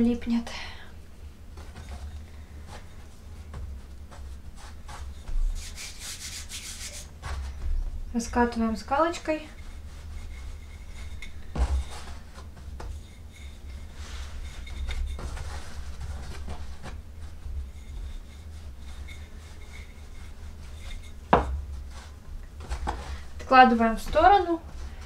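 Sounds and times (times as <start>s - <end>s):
rolling pin rubbing on dough: 1.8s - 25.0s.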